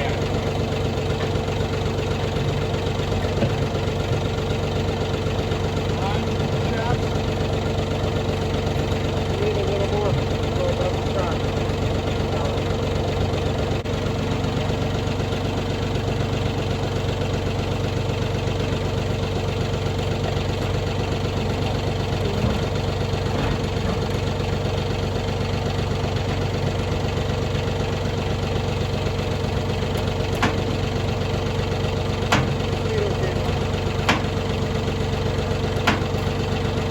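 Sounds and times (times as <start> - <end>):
engine idling: 0.0 - 36.9.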